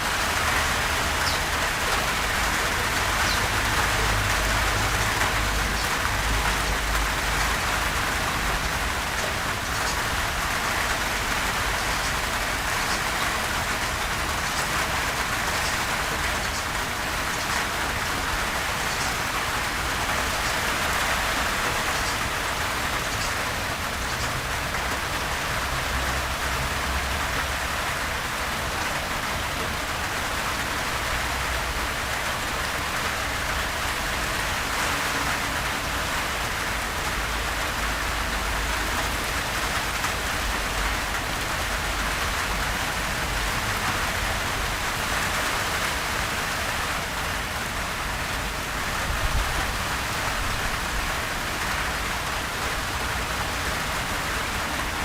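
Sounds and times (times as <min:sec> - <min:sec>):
gentle rain falling: 0:00.0 - 0:55.0.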